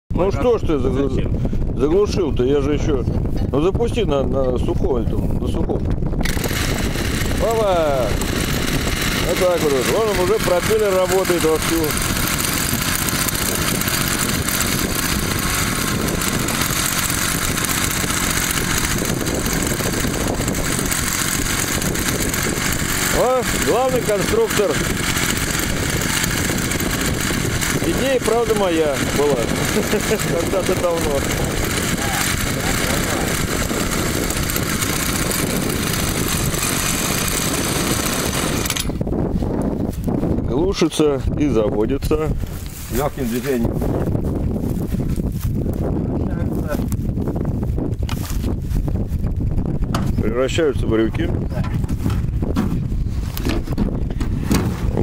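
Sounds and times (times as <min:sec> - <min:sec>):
two-stroke engine running: 0:06.1 - 0:55.0.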